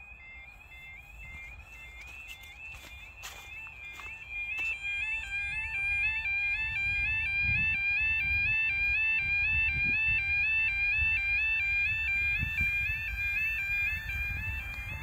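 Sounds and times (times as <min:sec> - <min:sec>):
two-tone electronic crossing alarm: 0:00.0 - 0:15.0.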